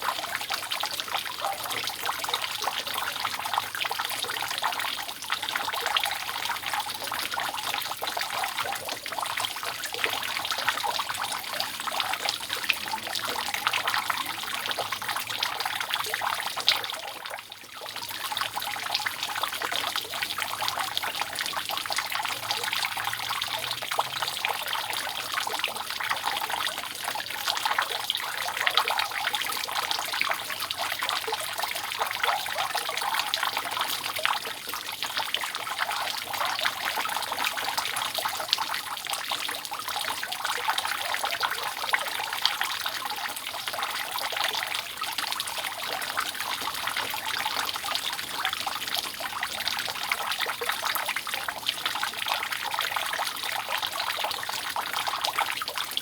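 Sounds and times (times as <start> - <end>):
water dripping off a roof: 0.0 - 56.0.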